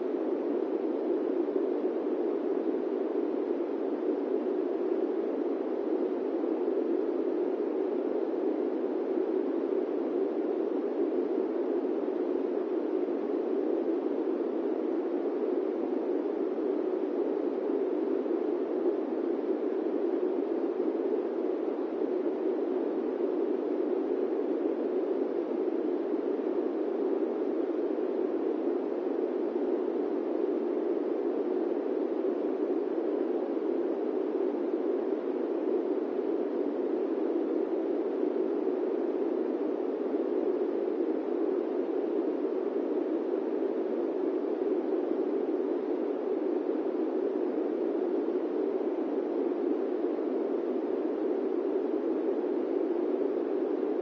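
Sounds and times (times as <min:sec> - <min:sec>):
airplane cabin white noise: 0:00.0 - 0:54.0.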